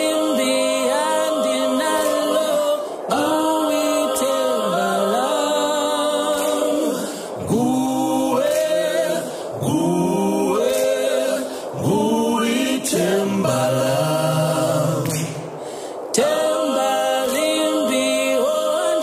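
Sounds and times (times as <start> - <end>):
a cappella choir singing: 0.0 - 19.0.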